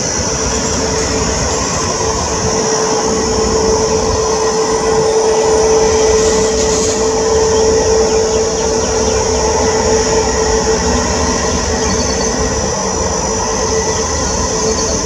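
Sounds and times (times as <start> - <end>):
high whine: 0.0 - 15.0
jet engines roaring: 0.0 - 15.0.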